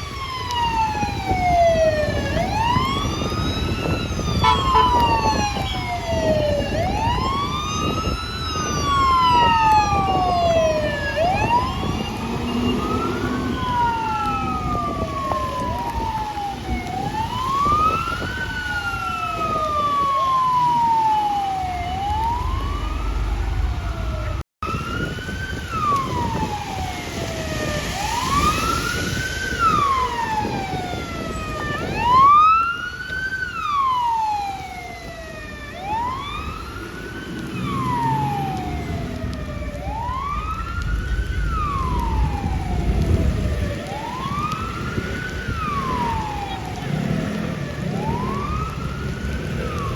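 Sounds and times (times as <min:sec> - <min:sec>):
fire engine sirens wailing: 0:00.0 - 0:49.9
truck engine and road noise: 0:00.0 - 0:49.9.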